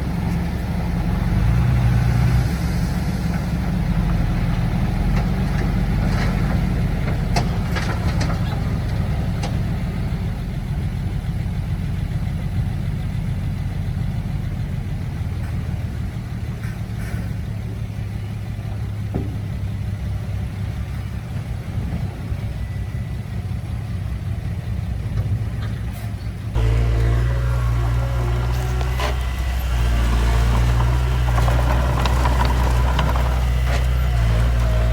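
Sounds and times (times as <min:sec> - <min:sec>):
diesel engine under load: 0:00.0 - 0:34.9.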